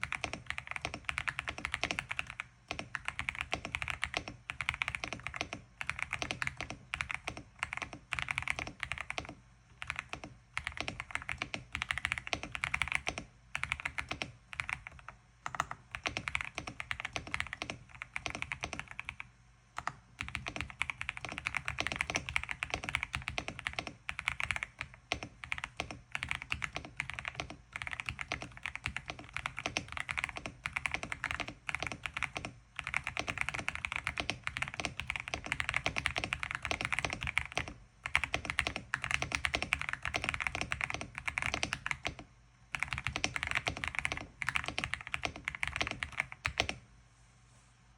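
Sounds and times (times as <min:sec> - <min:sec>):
mechanical keyboard typing: 0:00.0 - 0:46.8.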